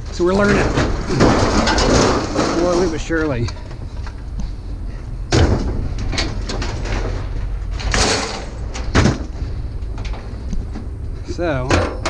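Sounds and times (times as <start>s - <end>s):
knocks and bangs: 0.0s - 3.8s, 5.3s - 10.9s, 11.6s - 12.0s
low steady rumble: 0.0s - 12.0s.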